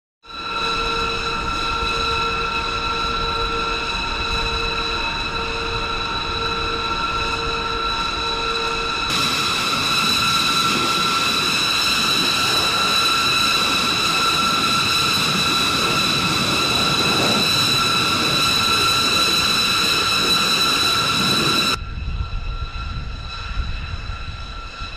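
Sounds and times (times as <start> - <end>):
jet engine running: 0.3 - 24.9.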